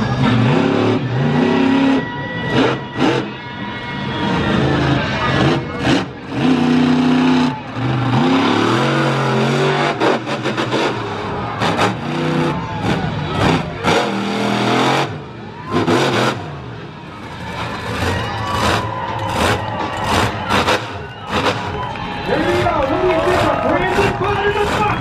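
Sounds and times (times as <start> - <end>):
truck engine revving hard: 0.0 - 25.0.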